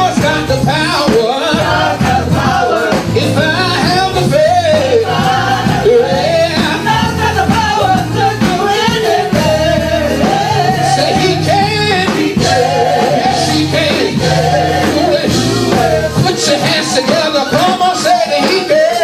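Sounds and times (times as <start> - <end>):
bass notes: 0.0 - 18.2
voices singing gospel song: 0.0 - 19.0.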